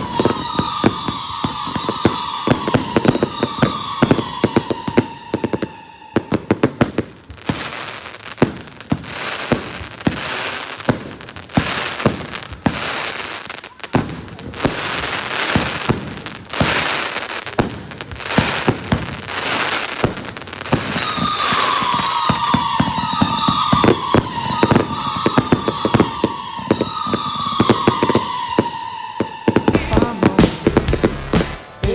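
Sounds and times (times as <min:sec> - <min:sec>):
falling firework whistle: 0:00.0 - 0:31.9
fireworks popping and crackling: 0:00.0 - 0:31.9.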